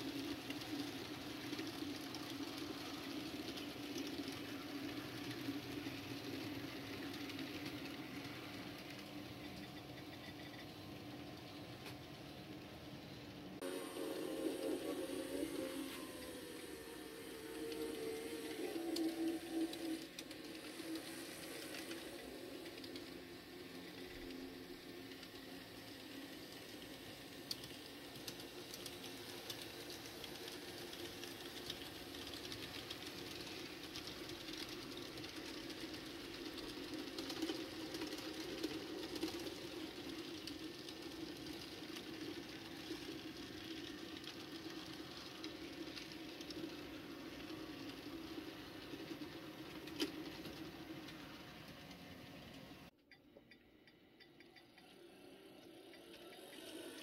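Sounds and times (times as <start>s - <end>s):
model train running: 0.0s - 52.9s, 53.9s - 57.0s.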